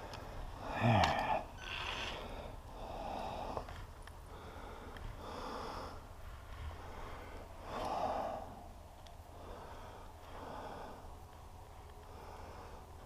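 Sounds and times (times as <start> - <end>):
man breathing close to microphone: 0.0 - 13.0.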